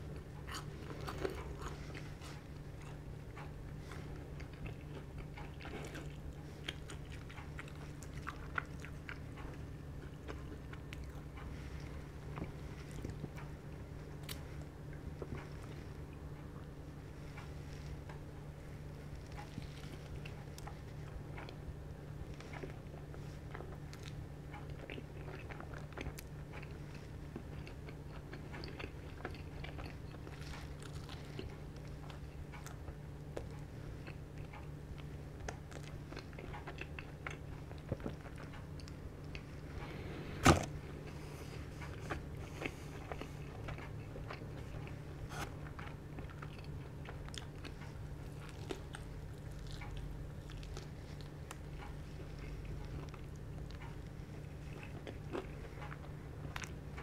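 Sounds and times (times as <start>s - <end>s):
person chewing crispy chicken: 0.0s - 57.0s
steady low hum: 0.0s - 57.0s.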